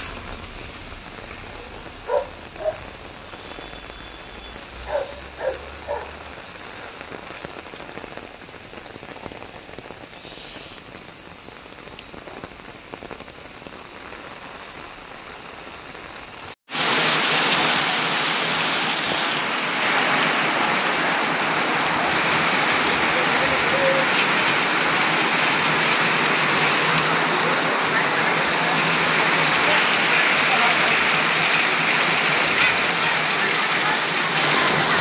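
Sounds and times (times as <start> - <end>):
heavy rain on pavement: 0.0 - 35.0.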